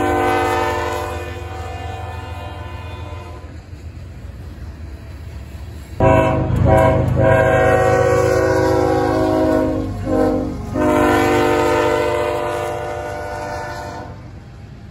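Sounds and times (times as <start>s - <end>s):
train air horn blasts: 0.0s - 3.7s, 6.0s - 14.3s
locomotive rumble: 0.0s - 14.9s.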